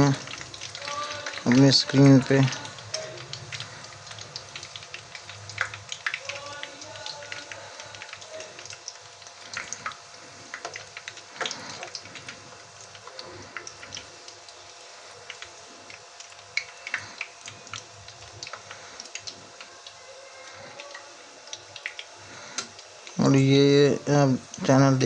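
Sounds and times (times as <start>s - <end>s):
food deep-frying in oil: 0.0s - 25.0s.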